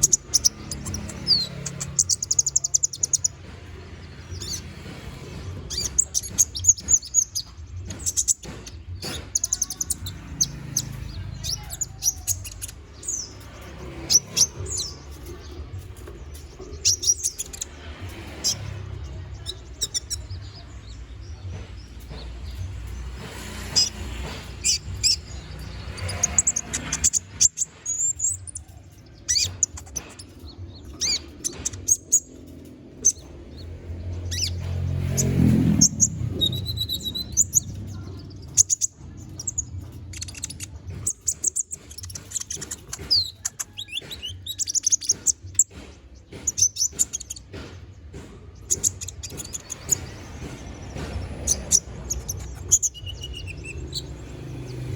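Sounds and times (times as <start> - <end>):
bird singing chirps and trills: 0.0 - 54.9.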